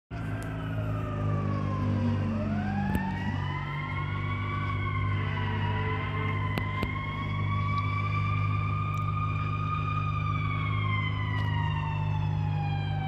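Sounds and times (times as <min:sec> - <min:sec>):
fire engine siren wailing: 0:00.1 - 0:13.0.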